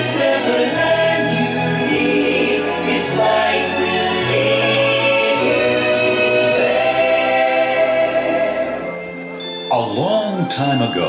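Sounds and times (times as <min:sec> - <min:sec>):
choir singing over loudspeakers: 0:00.0 - 0:09.0.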